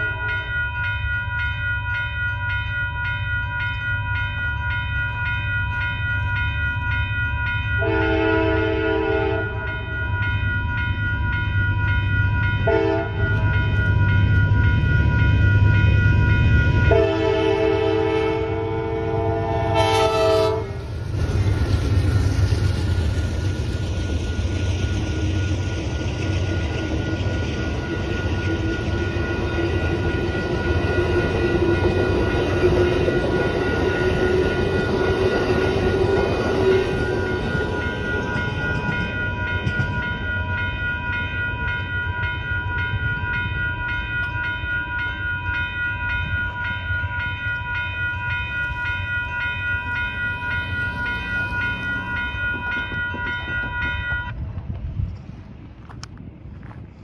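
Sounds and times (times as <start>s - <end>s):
crossing warning bells: 0.0s - 56.9s
train wheels rumbling on rails: 0.0s - 57.0s.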